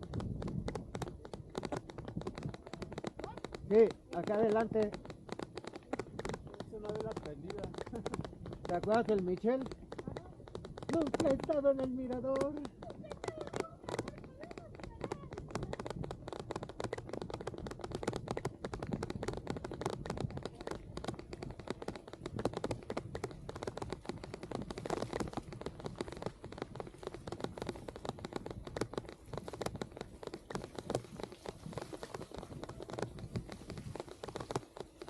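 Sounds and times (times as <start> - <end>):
low rumble of riding: 0.0 - 35.0
raindrops tapping on microphone: 0.0 - 35.0.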